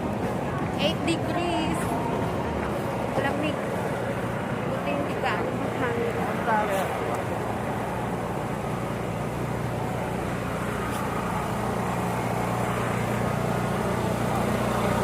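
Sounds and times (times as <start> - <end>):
engine humming: 0.0 - 15.0
street noise: 0.0 - 15.0.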